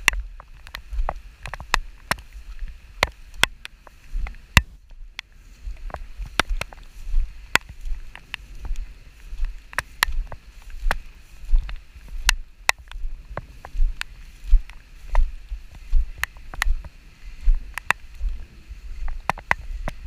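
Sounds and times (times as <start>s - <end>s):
raindrops tapping: 0.0s - 18.3s
low wind rumble: 0.0s - 20.0s.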